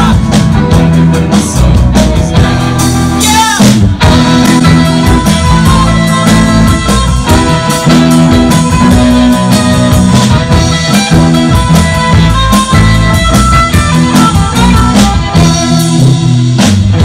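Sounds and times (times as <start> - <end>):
live surf rock band: 0.0 - 17.0.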